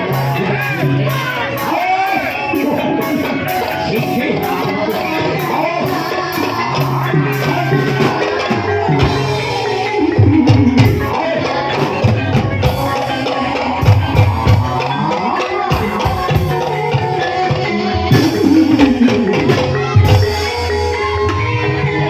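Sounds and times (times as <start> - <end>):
hand drum beats: 0.0 - 22.0
ringing melodic gamelan tones: 0.0 - 22.0.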